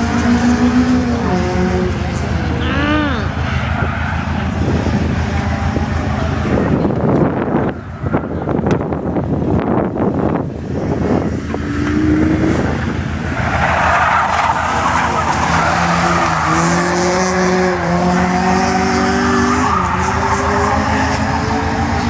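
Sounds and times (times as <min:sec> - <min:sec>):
car engines at high revs: 0:00.0 - 0:22.0.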